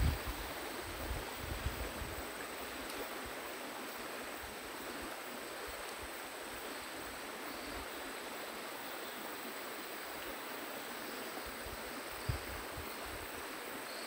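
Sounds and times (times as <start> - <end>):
high insect whine: 0.0 - 14.0
running water hiss: 0.0 - 14.0.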